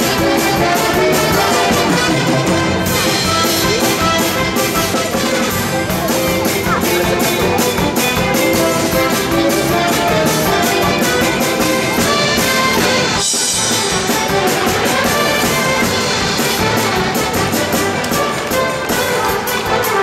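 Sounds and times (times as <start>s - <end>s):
instrumental music with steady beat: 0.0s - 20.0s.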